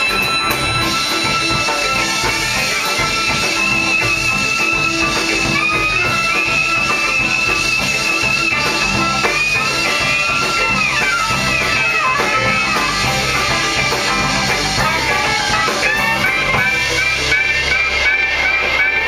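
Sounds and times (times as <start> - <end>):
horn melody sliding between notes: 0.0 - 19.0
jazz band playing a waltz: 0.0 - 19.0.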